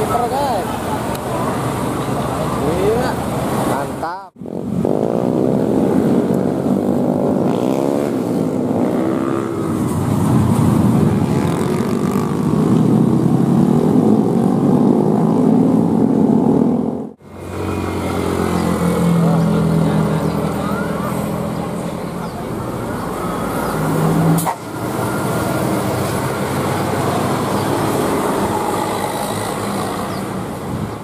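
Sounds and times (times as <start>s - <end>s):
motorcycles and scooters passing: 0.0s - 31.0s.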